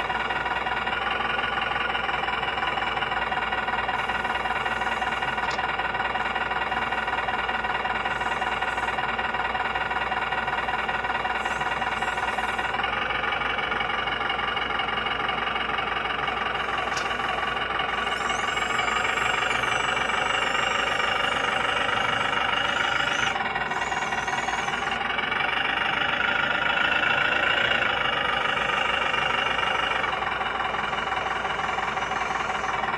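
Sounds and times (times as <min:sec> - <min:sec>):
high wavering whine: 0:00.0 - 0:12.8, 0:16.2 - 0:25.2, 0:26.0 - 0:32.9
simulated diesel engine clatter: 0:00.0 - 0:32.9.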